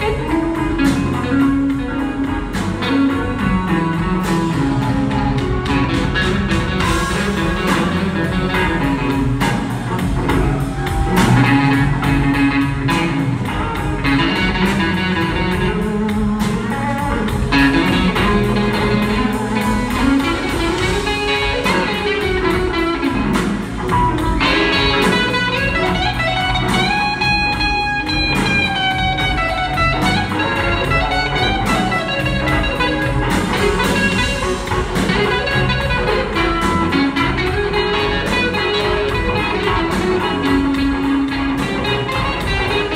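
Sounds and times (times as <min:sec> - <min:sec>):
blues band playing: 0:00.0 - 0:42.9
electric guitar lead bending notes: 0:00.0 - 0:42.9.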